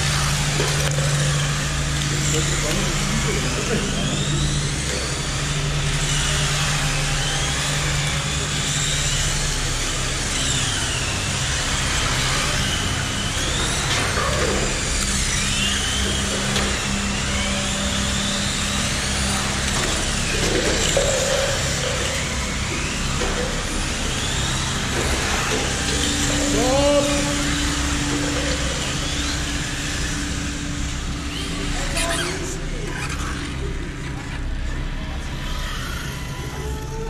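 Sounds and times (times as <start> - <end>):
model car electric motors whining: 0.0 - 37.0.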